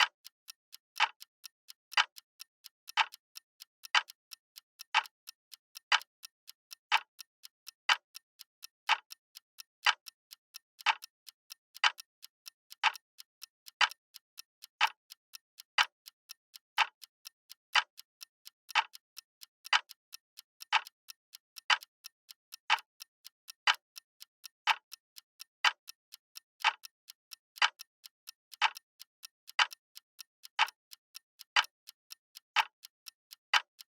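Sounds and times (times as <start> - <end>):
clock ticking: 0.0 - 33.9.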